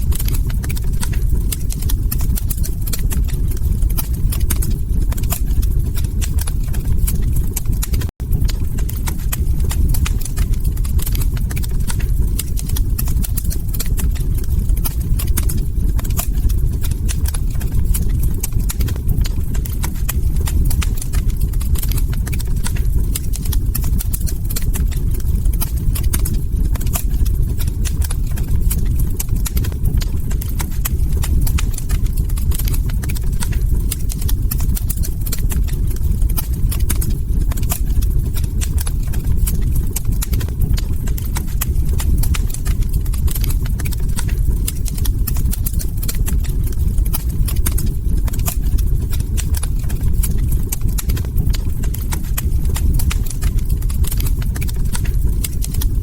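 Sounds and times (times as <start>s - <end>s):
log fire crackling: 0.0s - 56.0s
low rumble of burning wood: 0.0s - 56.0s.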